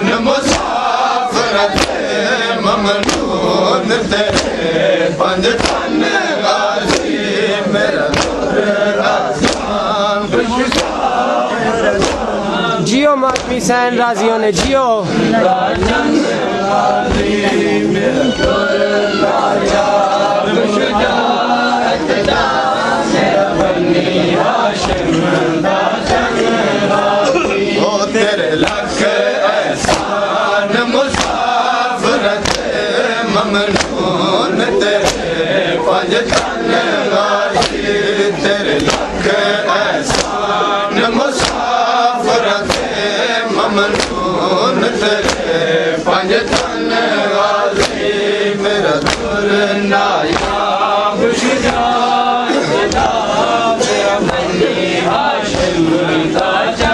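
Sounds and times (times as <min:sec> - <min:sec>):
men chanting together: 0:00.0 - 0:56.9
hands slapping chests: 0:00.1 - 0:13.7, 0:14.5 - 0:15.0, 0:15.7 - 0:17.6, 0:18.3 - 0:27.3, 0:28.2 - 0:56.9.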